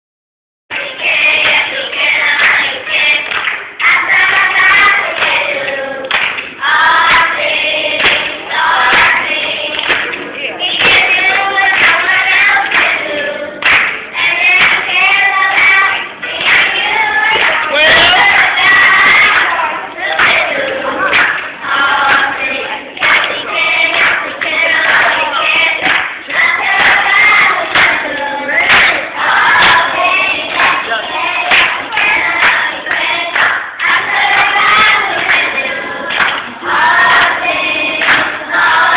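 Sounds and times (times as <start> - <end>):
hand clapping: 0.7 - 19.6, 20.2 - 22.4, 23.0 - 37.4, 38.0 - 38.4
children's choir singing: 0.7 - 38.9.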